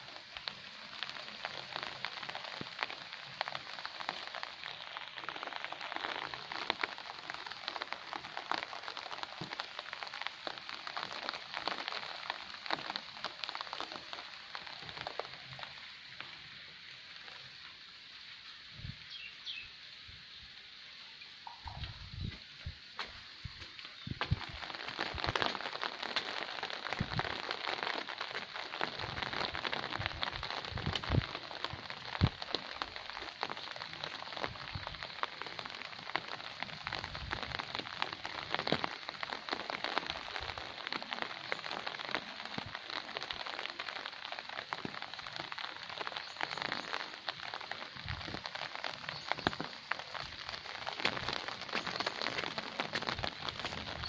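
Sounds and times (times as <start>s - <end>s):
rain pattering on hard surfaces: 0.0s - 54.0s.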